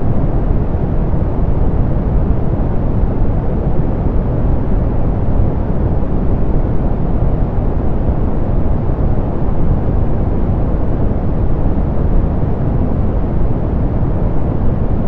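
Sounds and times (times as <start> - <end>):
deep pink noise hiss: 0.0 - 15.0.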